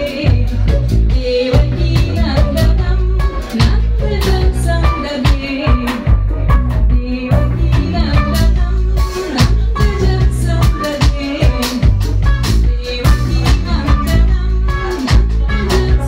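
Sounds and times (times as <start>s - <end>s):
bass: 0.0s - 16.0s
drum kit beat: 0.0s - 16.0s.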